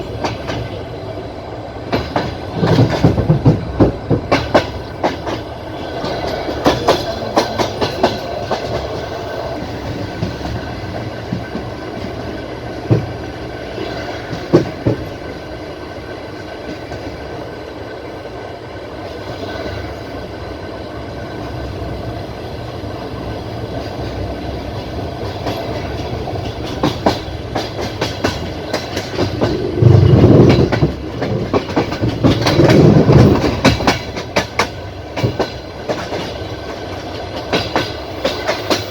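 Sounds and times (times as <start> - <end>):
wheels clicking over rail joints: 0.0 - 0.9, 1.8 - 18.0, 23.7 - 38.9
train carriage rumbling on track: 0.0 - 38.9.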